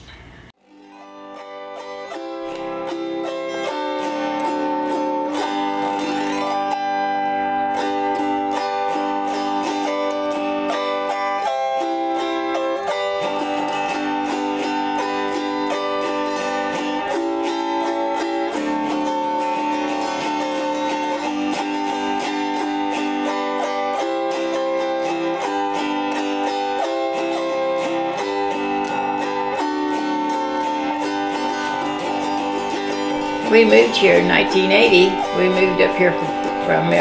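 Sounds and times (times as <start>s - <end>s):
autoharp strummed in chords: 0.6s - 37.0s.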